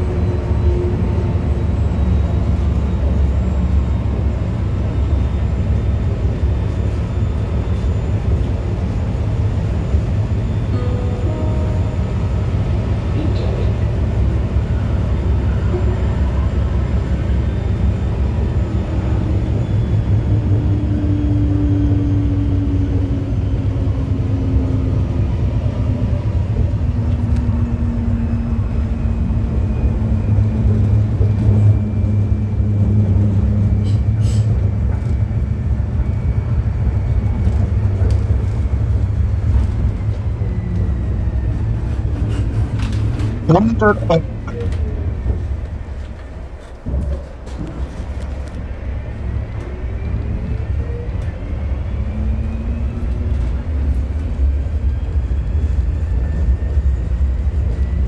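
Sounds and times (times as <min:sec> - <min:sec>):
wheels rumbling on rail: 0:00.0 - 0:43.5, 0:44.2 - 0:58.0.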